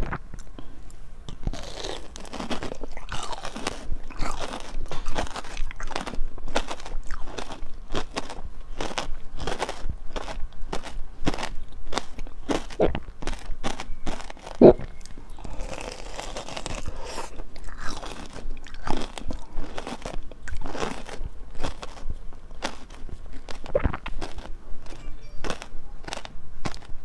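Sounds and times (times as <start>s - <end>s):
crunchy biting and chewing: 1.3s - 27.0s.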